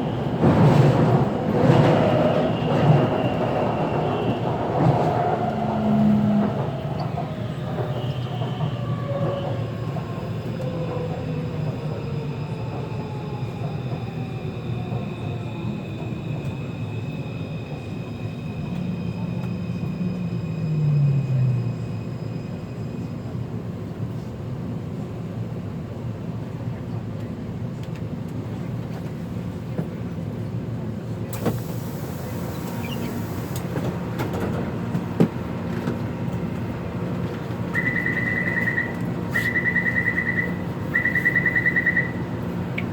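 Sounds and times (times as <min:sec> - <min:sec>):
train running noise: 0:00.0 - 0:42.9.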